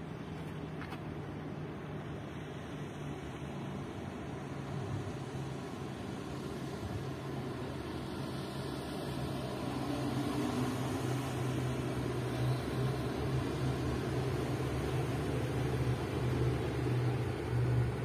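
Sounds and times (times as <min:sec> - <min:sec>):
motorboat engine humming: 0:00.0 - 0:18.0.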